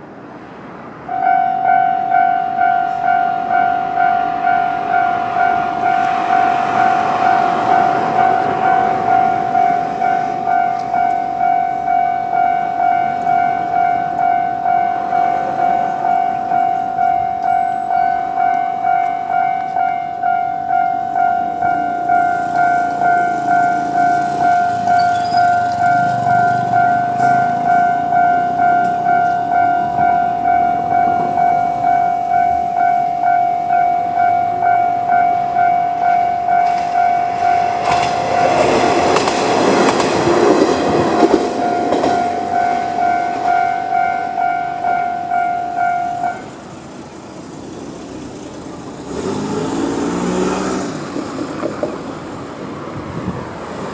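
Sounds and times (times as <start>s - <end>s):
diesel railcar passing: 0.0s - 53.9s
level crossing warning bell: 1.0s - 49.1s.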